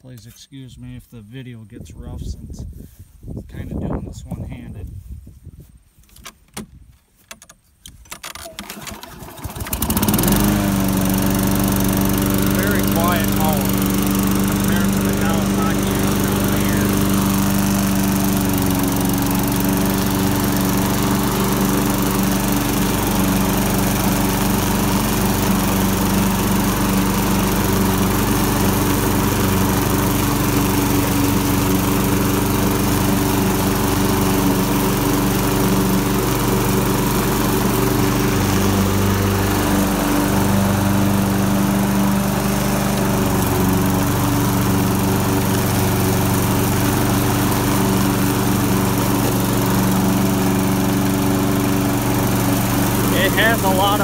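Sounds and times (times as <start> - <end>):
lawn mower engine running: 8.0 - 54.0.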